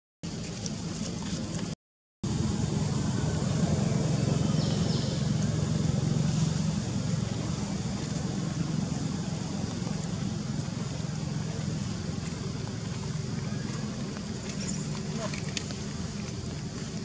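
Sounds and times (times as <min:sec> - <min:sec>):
vehicle engine humming: 0:00.3 - 0:17.0.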